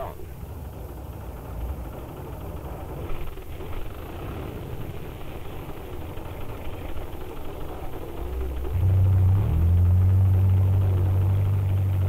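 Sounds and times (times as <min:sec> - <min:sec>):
large engine running: 0:00.0 - 0:12.0.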